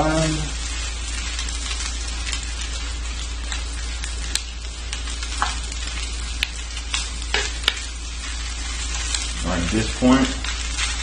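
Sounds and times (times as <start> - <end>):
food sizzling in a wok: 0.0 - 11.0
utensil scraping and tapping wok: 0.6 - 11.0.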